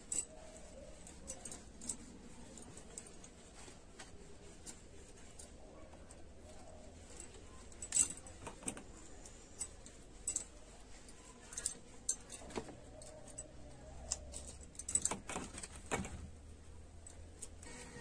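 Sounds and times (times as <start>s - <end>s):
bangles jingling against steel plates: 0.0s - 17.7s.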